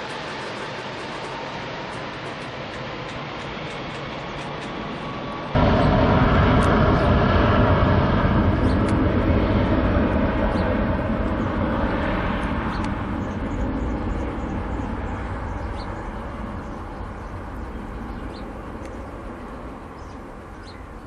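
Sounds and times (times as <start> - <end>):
jet engines roaring at takeoff: 0.0 - 21.0.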